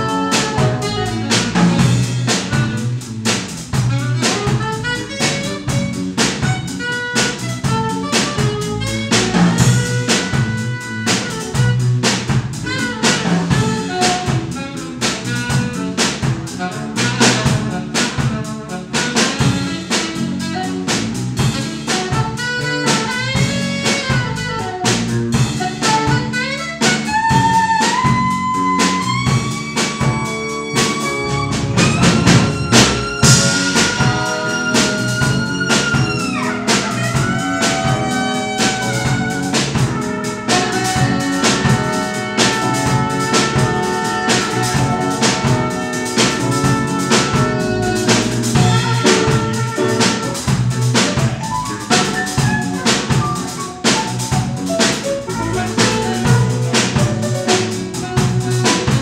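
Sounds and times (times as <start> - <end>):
drum groove: 0.0 - 59.0
live jazz band: 0.0 - 59.0.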